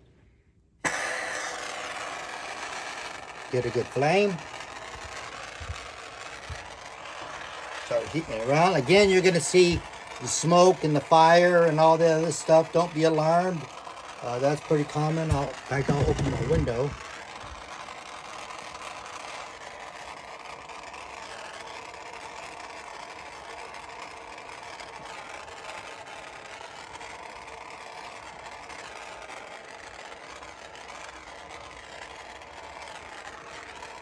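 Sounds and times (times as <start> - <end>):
soldering torch flame hissing: 0.8 - 34.0.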